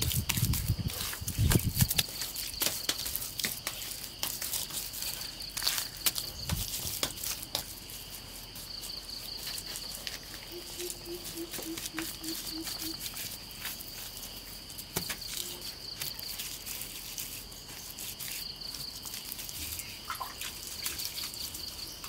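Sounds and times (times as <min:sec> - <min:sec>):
hands working wet mud: 0:00.0 - 0:22.0
insects chirping: 0:00.0 - 0:22.0.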